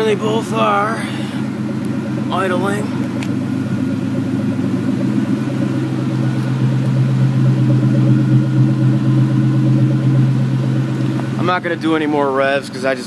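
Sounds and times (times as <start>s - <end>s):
car engines idling: 0.0s - 13.0s.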